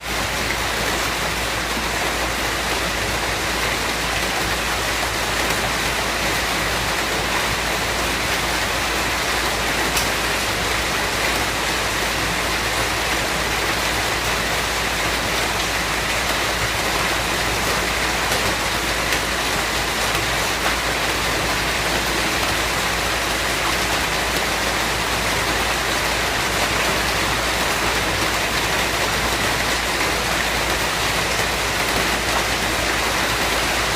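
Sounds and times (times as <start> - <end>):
steady rainfall: 0.0 - 33.9.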